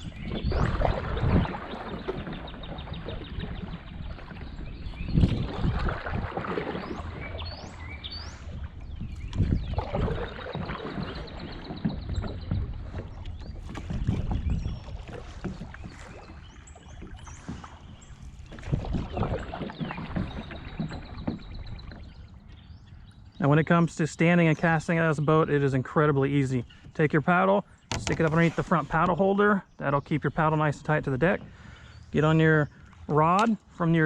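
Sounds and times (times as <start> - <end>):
paddle splashing in water: 0.0 - 22.8, 24.5 - 34.0.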